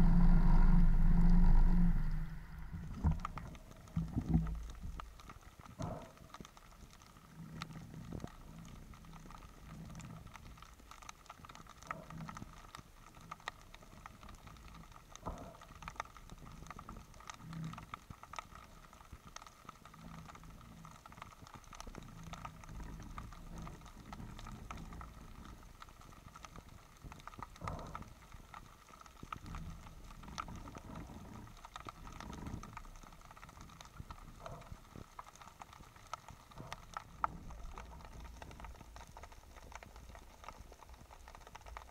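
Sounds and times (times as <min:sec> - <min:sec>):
underwater clicks and crackles: 0:00.0 - 0:41.9
underwater rush: 0:00.0 - 0:41.9.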